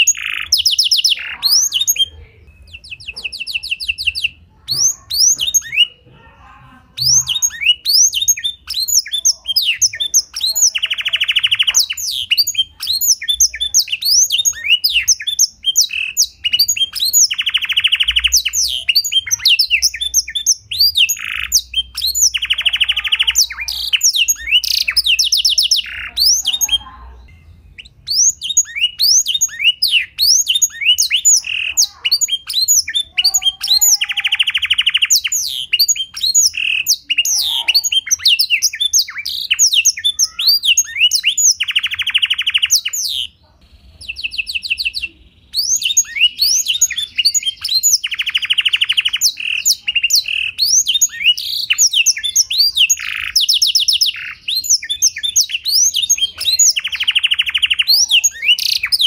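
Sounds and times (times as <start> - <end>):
canary buzzy trills: 0.0 - 59.0
canary chirping: 0.0 - 59.0.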